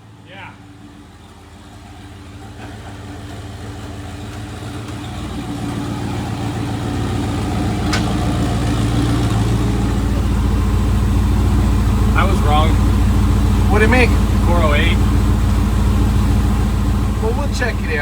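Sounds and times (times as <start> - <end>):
engine running at low speed: 0.0 - 18.0.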